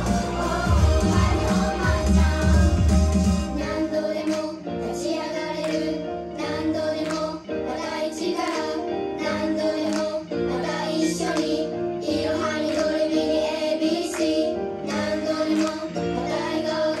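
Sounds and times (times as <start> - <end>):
pop song with high voices singing: 0.0 - 17.0.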